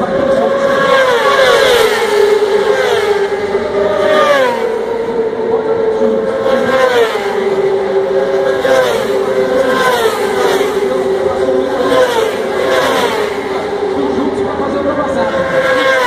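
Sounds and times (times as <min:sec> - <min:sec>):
racing motorcycles passing at high revs: 0:00.0 - 0:16.0.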